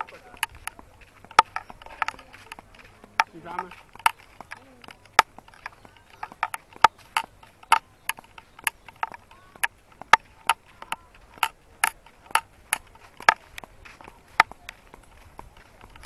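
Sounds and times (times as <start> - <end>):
footsteps on path: 0.0 - 16.0.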